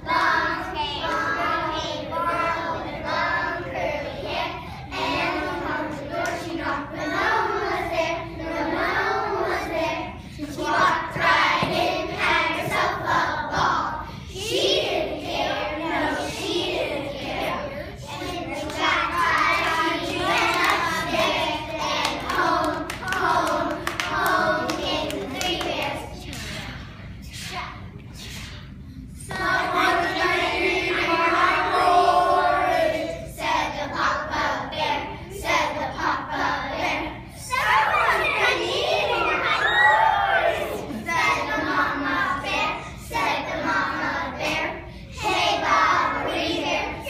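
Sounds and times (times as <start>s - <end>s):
children singing together: 0.0s - 47.0s.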